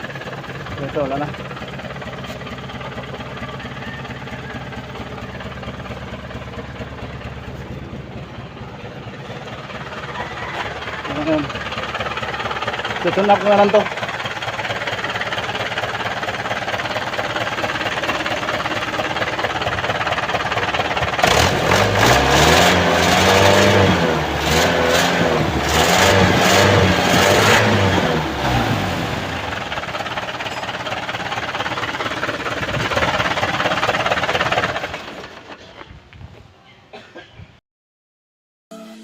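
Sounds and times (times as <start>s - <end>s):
diesel engine idling and revving: 0.0s - 36.1s.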